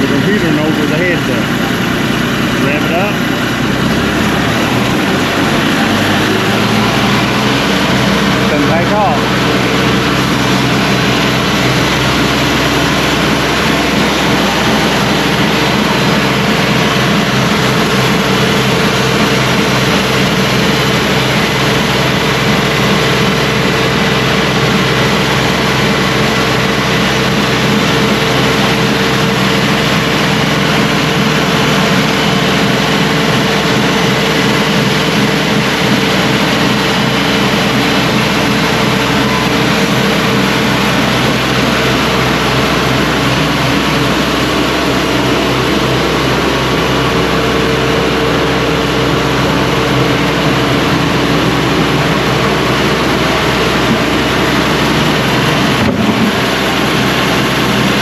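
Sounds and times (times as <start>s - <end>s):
band sawmill engine running: 0.0s - 58.0s
saw blade cutting log tone: 0.0s - 58.0s.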